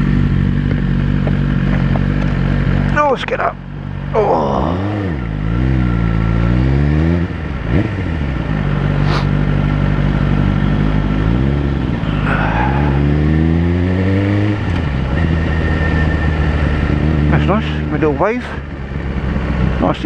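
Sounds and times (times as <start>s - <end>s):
motorcycle engine shifting gears: 0.0s - 20.0s.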